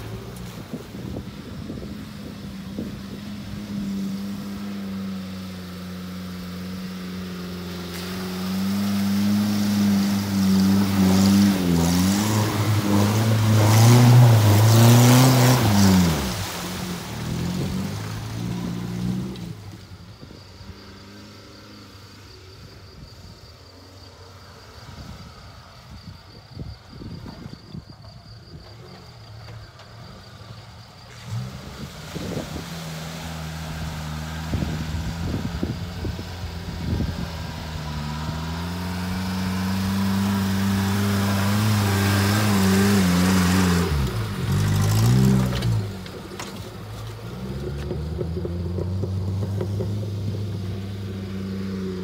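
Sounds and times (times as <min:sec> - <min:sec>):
water splashing: 0:00.0 - 0:21.3, 0:30.2 - 0:52.0
jeep engine revving: 0:00.0 - 0:22.5, 0:29.3 - 0:52.0.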